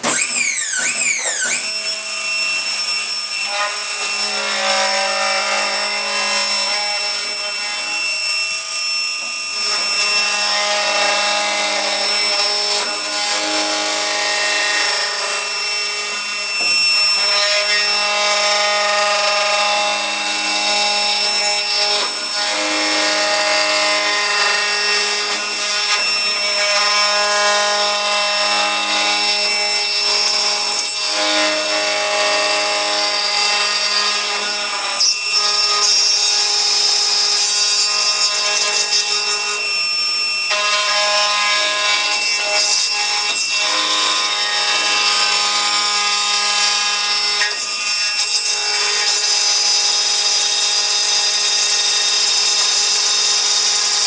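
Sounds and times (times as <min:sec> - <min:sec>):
milling machine cutting metal: 0:00.0 - 0:54.0.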